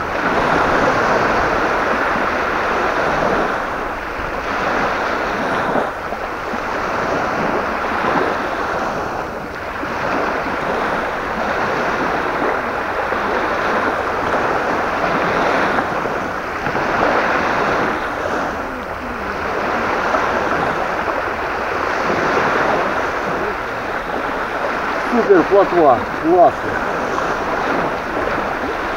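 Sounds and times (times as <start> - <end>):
gusty wind on microphone: 0.0 - 28.9
waves on water: 0.0 - 28.9.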